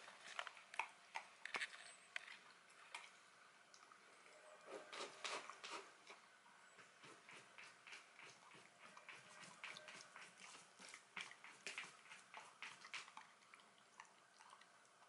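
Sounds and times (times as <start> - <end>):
soft eating noises: 0.0 - 15.0.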